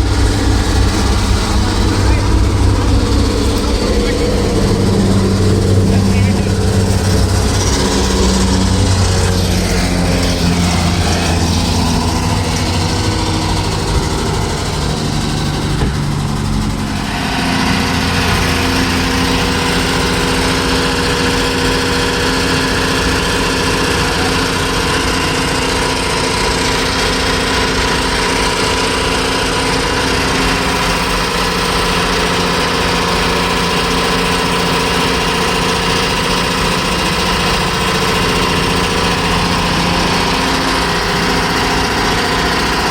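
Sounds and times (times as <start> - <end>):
motor running: 0.0 - 42.9.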